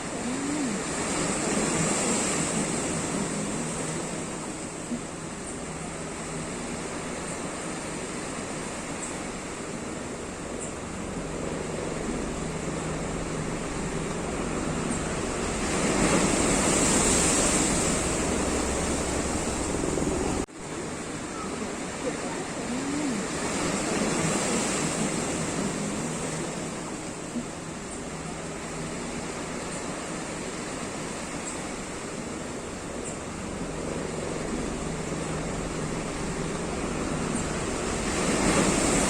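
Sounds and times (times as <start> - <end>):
sea waves breaking: 0.0 - 39.0.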